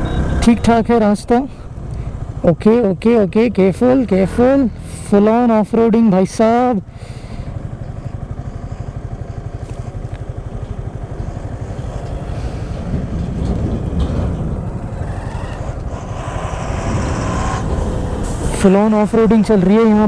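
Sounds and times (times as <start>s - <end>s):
lorry engine: 0.0s - 20.0s
motorcycle engine at low revs: 0.0s - 20.0s.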